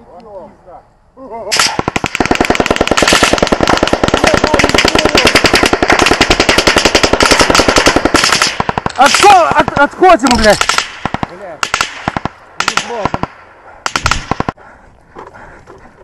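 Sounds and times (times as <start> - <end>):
automatic gunfire: 1.5 - 14.6.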